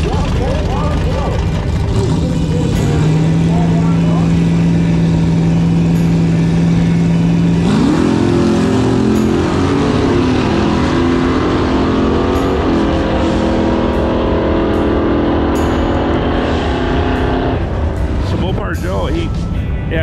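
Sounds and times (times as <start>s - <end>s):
drag car engine revving: 0.0s - 19.5s.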